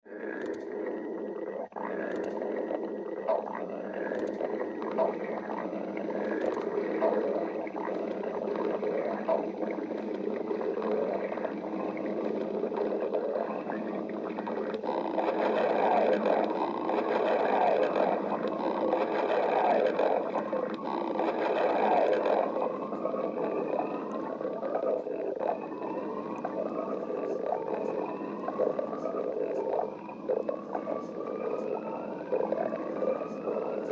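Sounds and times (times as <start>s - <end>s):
stomach growling: 0.0s - 33.9s.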